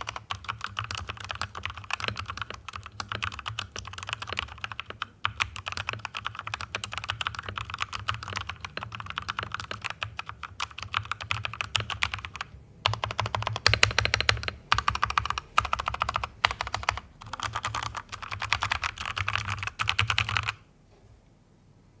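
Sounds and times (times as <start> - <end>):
mechanical keyboard typing: 0.0 - 20.6.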